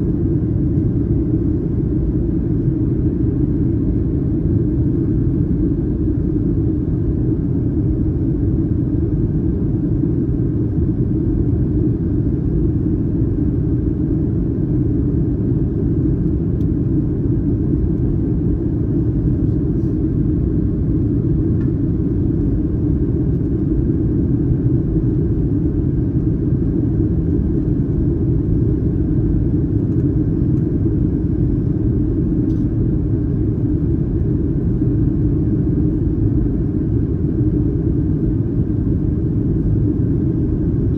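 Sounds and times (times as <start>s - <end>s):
airplane cabin roar: 0.0s - 40.9s.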